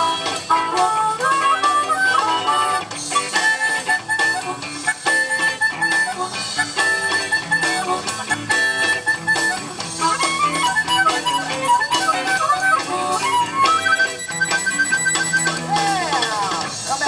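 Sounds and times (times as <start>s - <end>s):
amplified harmonica: 0.0s - 16.9s
live band with bass: 0.0s - 17.0s.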